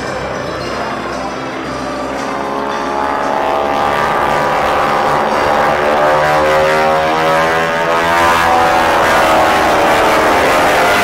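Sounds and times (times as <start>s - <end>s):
propeller planes droning overhead: 0.0s - 11.0s.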